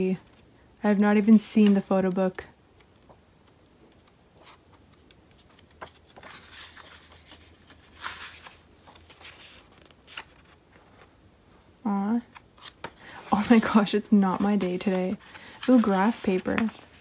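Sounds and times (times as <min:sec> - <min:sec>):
paper pages rustling: 0:01.2 - 0:11.1, 0:12.2 - 0:17.0.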